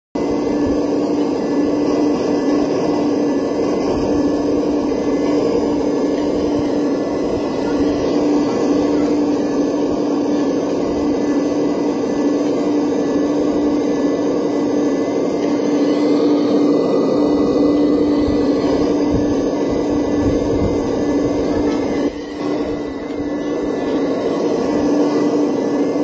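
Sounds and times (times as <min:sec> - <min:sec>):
electric motors whirring: 0:00.2 - 0:26.0.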